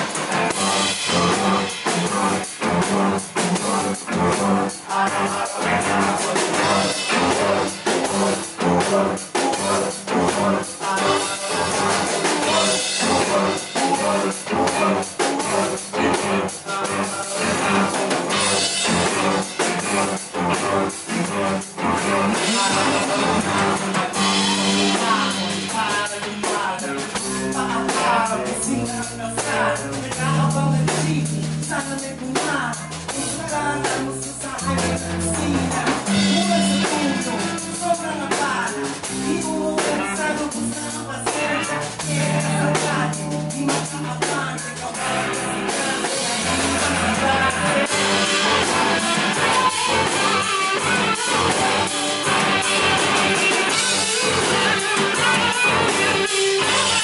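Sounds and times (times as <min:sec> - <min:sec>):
held bass notes: 0:00.0 - 0:57.0
live rock band playing: 0:00.0 - 0:57.0
man singing: 0:00.0 - 0:57.0.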